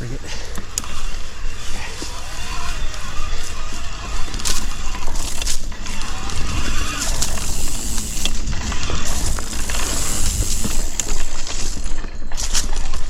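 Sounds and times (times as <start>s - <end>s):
bike rattling and clicking: 0.0s - 13.0s
bike tyre noise: 0.0s - 13.0s
wind rumbling on microphone: 0.0s - 13.0s.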